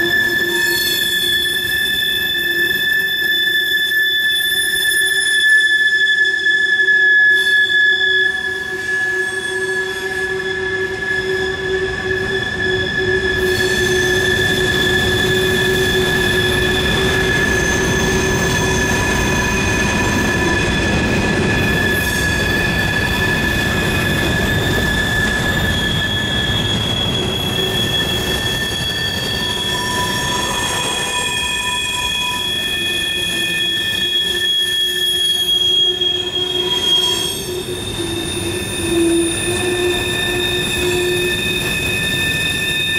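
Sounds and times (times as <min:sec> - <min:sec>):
railcar wheels squealing: 0:00.0 - 0:42.9
rolling rumble of railcars: 0:00.0 - 0:42.9.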